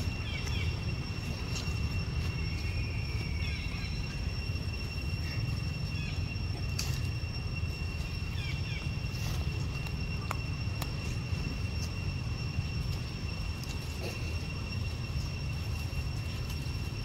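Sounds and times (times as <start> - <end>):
high-pitched insect buzz: 0.0 - 17.0.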